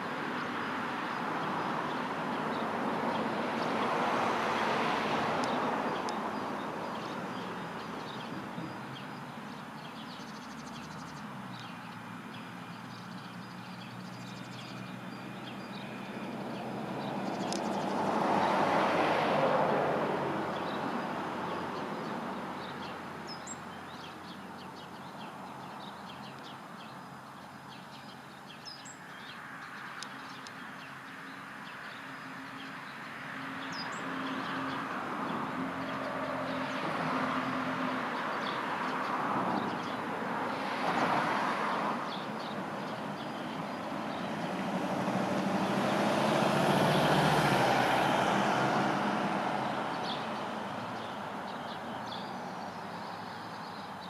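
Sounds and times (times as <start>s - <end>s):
small birds chirping: 0.0s - 18.7s, 20.3s - 54.0s
vehicles passing: 0.0s - 54.0s.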